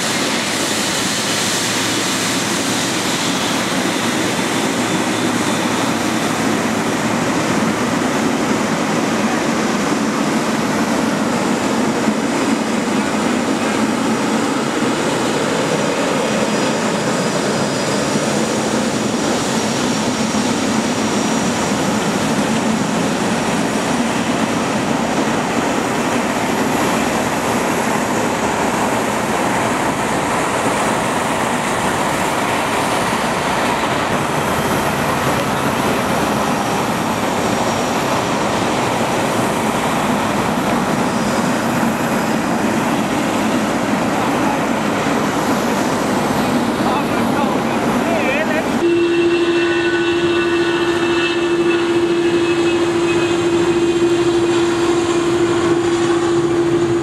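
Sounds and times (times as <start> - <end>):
jet engine noise: 0.0 - 57.0.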